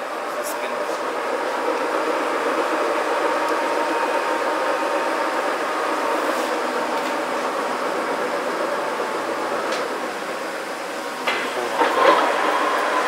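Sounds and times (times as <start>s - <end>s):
lathe whirring: 0.0s - 13.0s.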